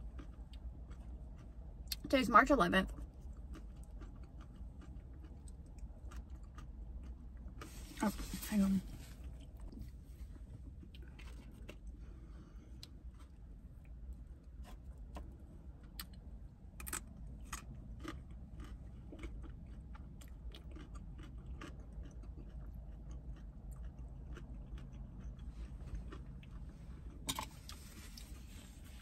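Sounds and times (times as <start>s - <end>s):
person chewing green beans: 0.0s - 2.1s, 2.9s - 29.0s
low steady hum: 0.0s - 29.0s.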